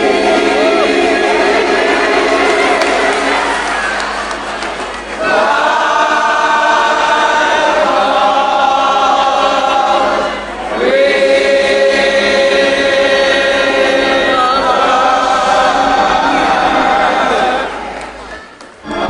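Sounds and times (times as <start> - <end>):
gospel choir singing: 0.0 - 18.3.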